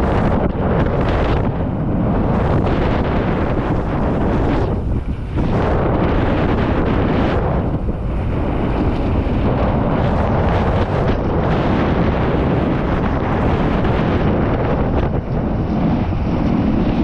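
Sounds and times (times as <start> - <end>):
bike rumbling and rattling: 0.0 - 17.0
wind buffeting microphone: 0.0 - 17.0.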